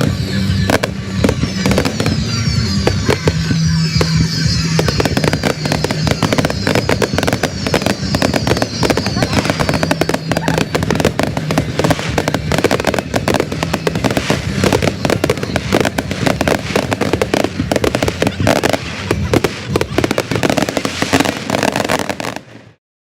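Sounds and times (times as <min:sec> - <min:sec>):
fireworks crackling bangs: 0:00.0 - 0:22.8.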